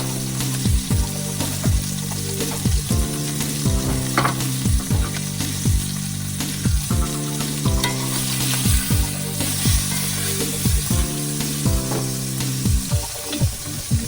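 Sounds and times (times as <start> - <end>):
background music with kick drums: 0.0 - 14.0
food sizzling in frying: 0.0 - 14.0.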